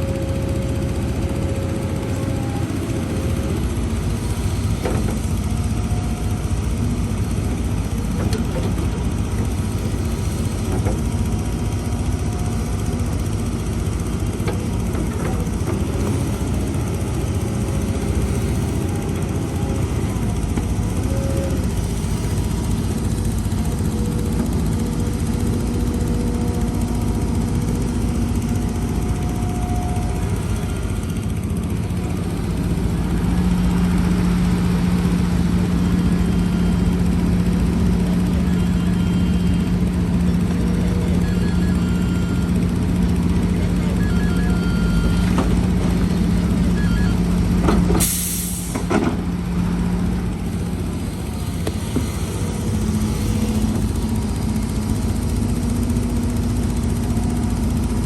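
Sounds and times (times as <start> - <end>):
diesel earthmoving machinery running: 0.0 - 58.0.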